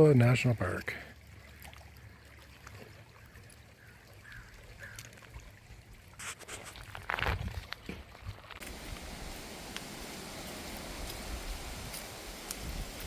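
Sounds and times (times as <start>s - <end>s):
water lapping and trickling: 0.0s - 13.0s.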